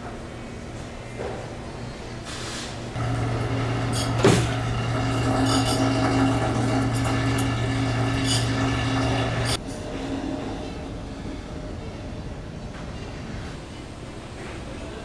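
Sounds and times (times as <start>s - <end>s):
low machinery hum: 2.8s - 15.0s.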